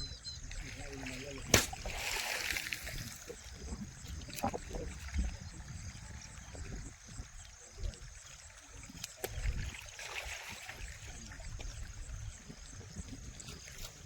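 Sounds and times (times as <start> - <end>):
river water flowing: 0.6 - 14.0.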